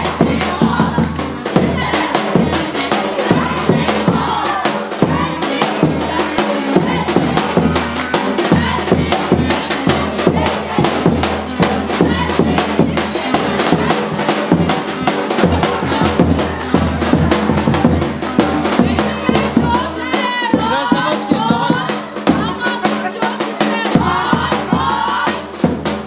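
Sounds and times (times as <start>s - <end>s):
music with fast drum beat: 0.0s - 26.0s.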